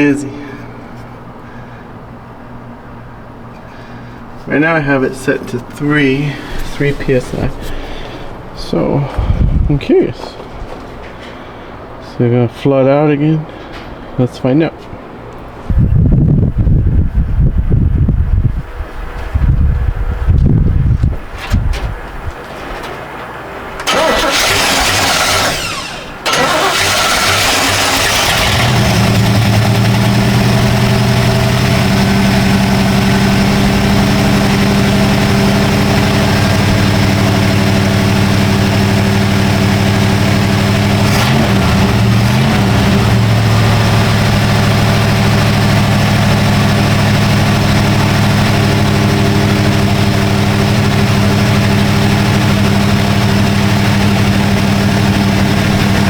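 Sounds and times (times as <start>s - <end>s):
car engine cranking and idling: 0.0s - 12.2s, 20.2s - 56.0s.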